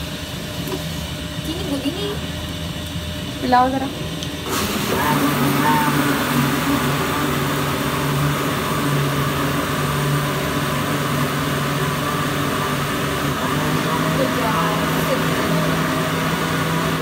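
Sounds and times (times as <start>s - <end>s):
electric blender running: 0.0s - 17.0s.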